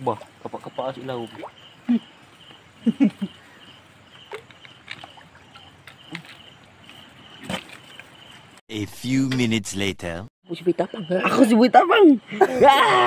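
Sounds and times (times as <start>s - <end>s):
insects chirping: 0.0s - 9.2s, 10.4s - 13.0s.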